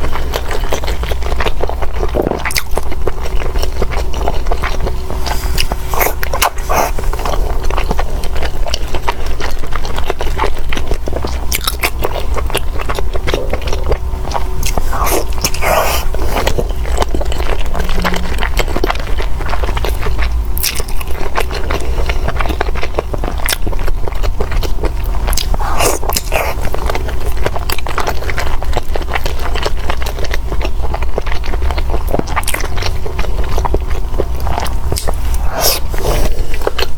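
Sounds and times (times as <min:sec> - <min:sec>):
wet mouth sounds: 0:00.0 - 0:10.5, 0:11.4 - 0:29.7, 0:32.0 - 0:36.9
crunchy biting and chewing: 0:00.0 - 0:36.9.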